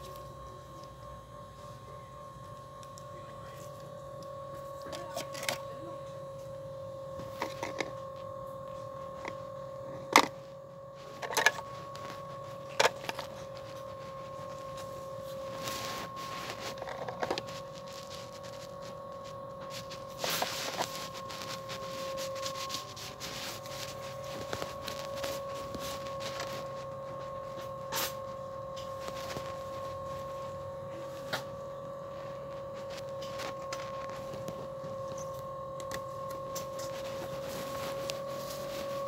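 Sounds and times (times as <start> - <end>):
steady two-pitch hum: 0.0 - 39.0.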